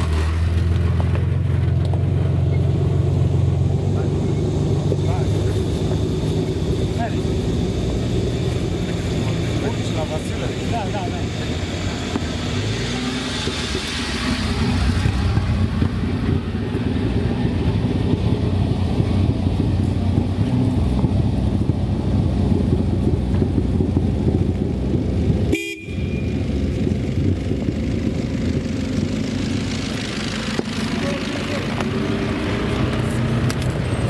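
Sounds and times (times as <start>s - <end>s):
off-road vehicle engine under load: 0.0s - 34.0s.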